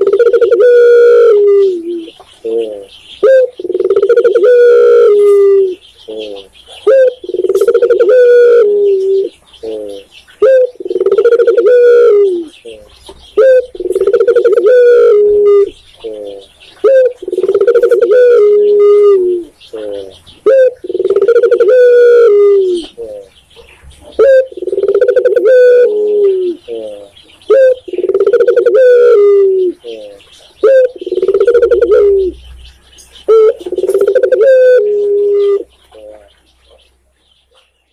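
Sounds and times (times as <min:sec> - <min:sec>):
dove cooing: 0:00.0 - 0:36.8.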